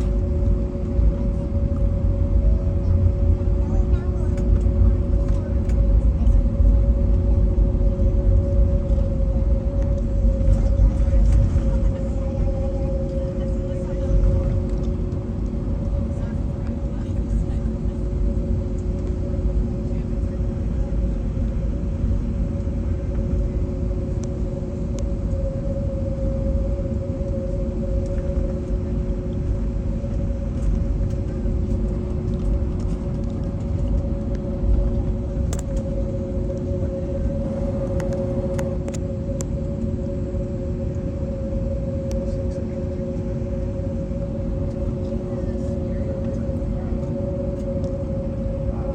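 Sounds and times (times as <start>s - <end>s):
aircraft cabin rumble: 0.0s - 48.9s
steady engine hums: 0.0s - 48.9s.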